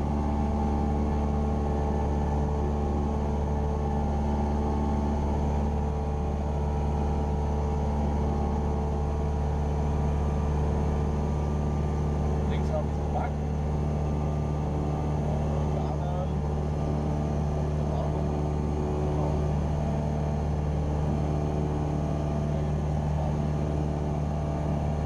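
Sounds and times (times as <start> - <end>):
airplane engine and propeller droning: 0.0 - 25.0.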